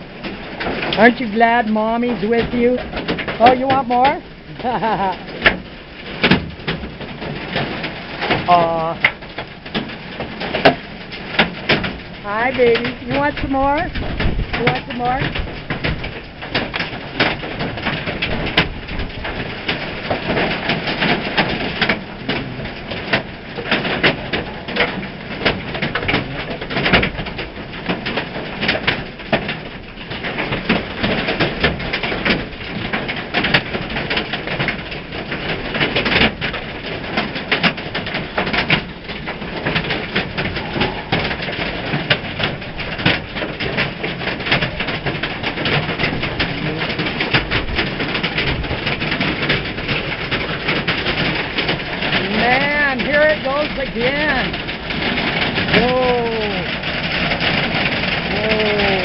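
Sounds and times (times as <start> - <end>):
hail pelting a roof: 0.0 - 59.0.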